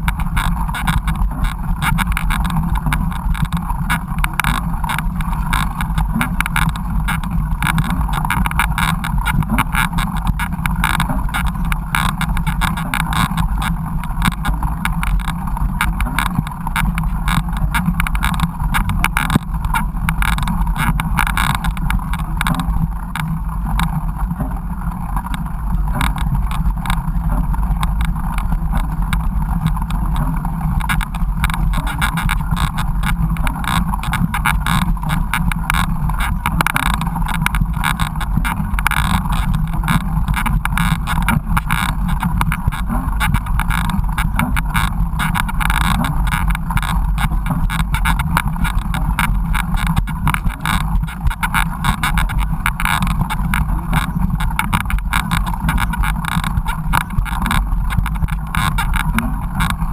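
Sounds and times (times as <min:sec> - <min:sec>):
bike wheels rumbling on dirt: 0:00.0 - 0:59.9.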